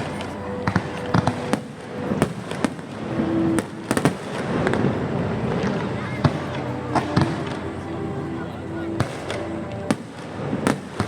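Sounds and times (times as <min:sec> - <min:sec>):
rumbling crackle of fireworks: 0:00.0 - 0:08.2, 0:08.9 - 0:11.0.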